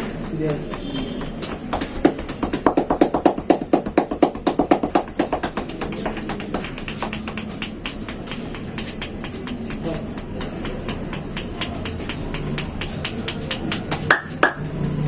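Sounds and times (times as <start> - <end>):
hands slapping in rapid massage: 0.0 - 14.8.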